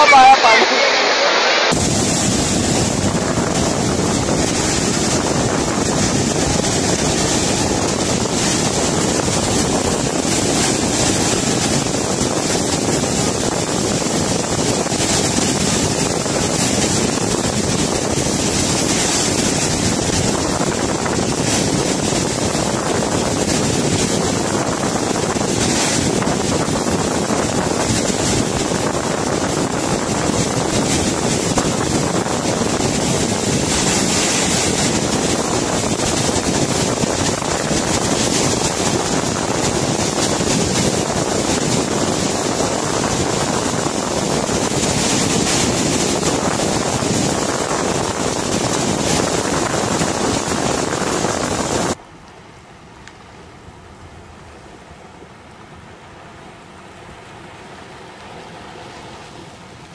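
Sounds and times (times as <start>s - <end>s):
floodwater rushing: 0.0s - 52.0s, 53.1s - 59.9s.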